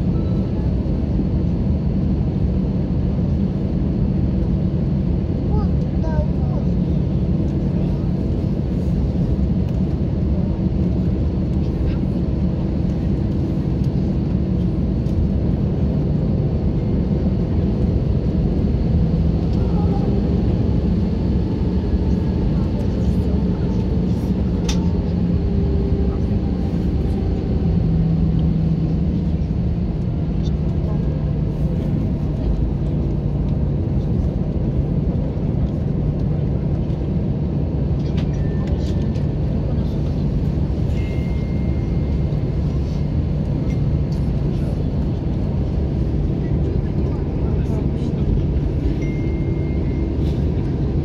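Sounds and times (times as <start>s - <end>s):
airliner engines rumbling in cabin: 0.0s - 51.0s.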